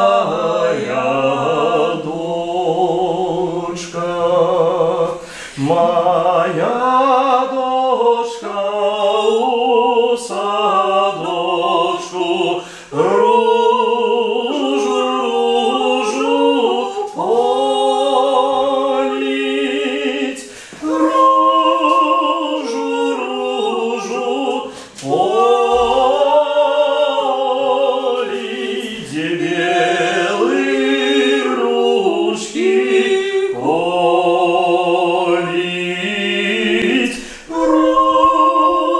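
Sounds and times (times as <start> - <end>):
man and woman singing: 0.0 - 38.9.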